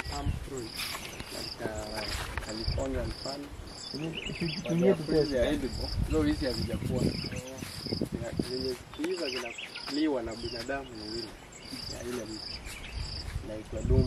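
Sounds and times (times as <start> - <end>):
indistinct voices talking: 0.0 - 14.0
insect chirping: 0.0 - 14.0.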